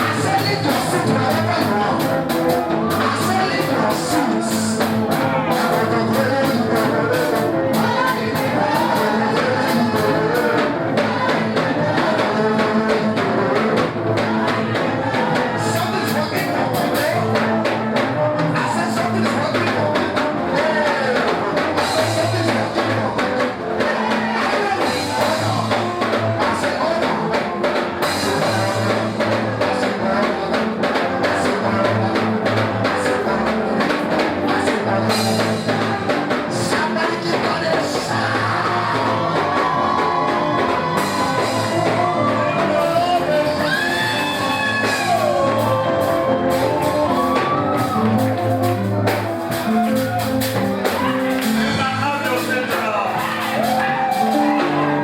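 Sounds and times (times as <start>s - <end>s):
gospel band playing: 0.0s - 55.0s
person singing: 0.0s - 55.0s.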